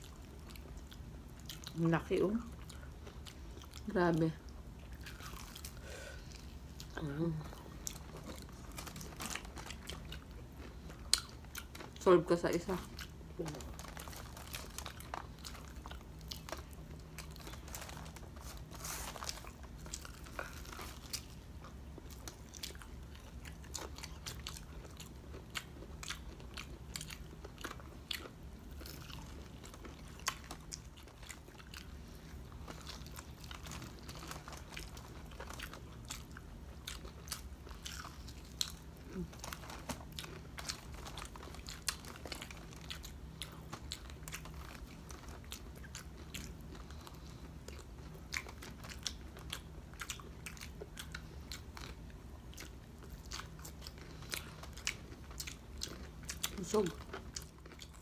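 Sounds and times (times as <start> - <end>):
chewing: 0.0 - 12.1, 12.7 - 58.0.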